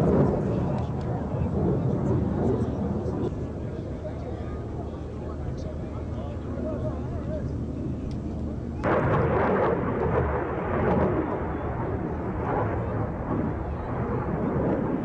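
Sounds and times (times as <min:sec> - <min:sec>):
jet flying overhead: 0:00.0 - 0:15.0.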